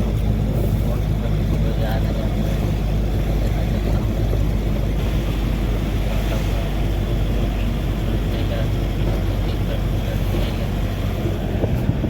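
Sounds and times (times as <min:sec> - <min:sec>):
road or wind noise: 0:00.0 - 0:12.0
vehicle engine drone: 0:00.0 - 0:12.0.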